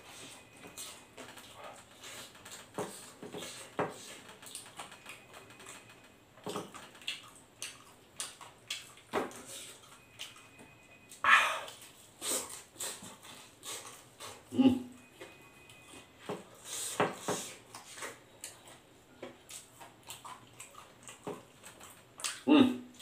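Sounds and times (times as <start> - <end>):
chewing and lip-smacking: 0.1 - 23.0.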